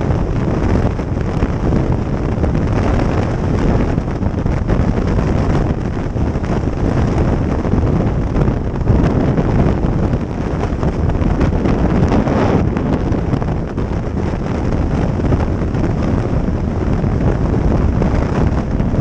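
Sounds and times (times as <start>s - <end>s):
vehicle and road noise: 0.0s - 19.0s
wind buffeting microphone: 0.0s - 19.0s.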